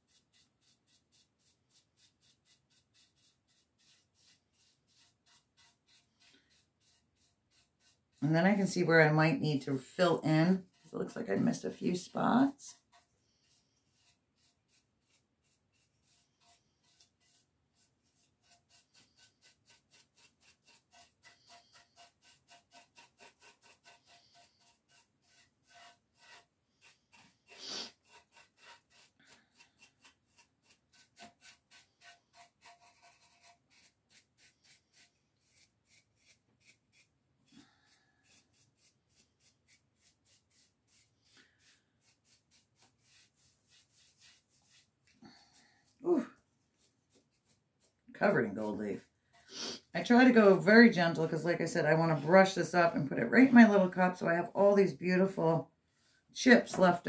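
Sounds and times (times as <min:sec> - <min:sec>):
faint brush strokes: 0:00.0 - 0:57.0.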